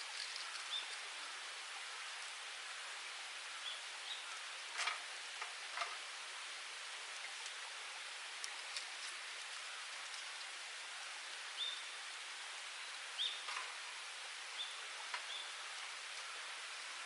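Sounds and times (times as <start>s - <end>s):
wood fire hissing: 0.0s - 17.0s.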